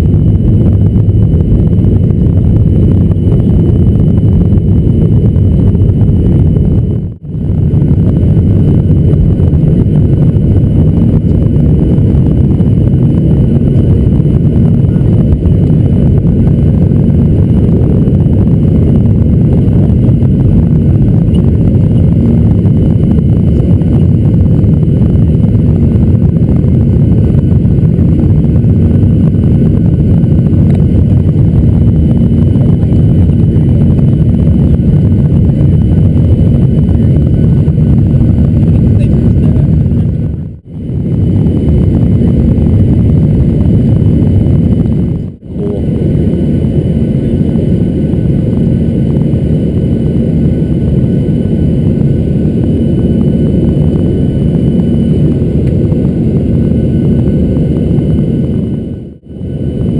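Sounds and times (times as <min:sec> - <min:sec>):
constant cabin hum: 0:00.0 - 0:59.9
jet engine drone: 0:00.0 - 0:59.9
rushing air: 0:00.0 - 0:59.9.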